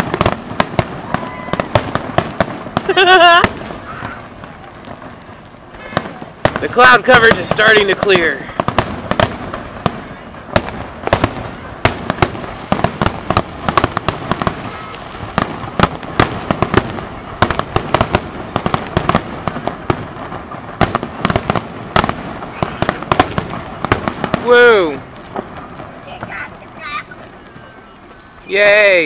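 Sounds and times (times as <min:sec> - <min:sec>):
fireworks bangs: 0:00.0 - 0:29.0
fireworks crackling: 0:00.0 - 0:29.0.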